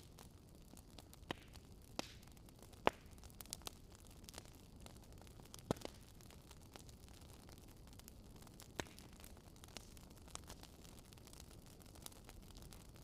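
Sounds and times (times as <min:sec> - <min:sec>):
faint steady hiss: 0:00.0 - 0:13.0
fire crackling and popping: 0:00.0 - 0:13.0.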